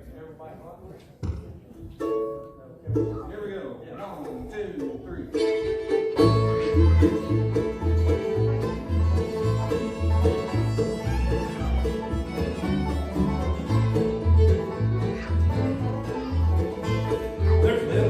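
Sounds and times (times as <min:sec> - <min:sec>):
bluegrass band playing: 0:01.9 - 0:18.0.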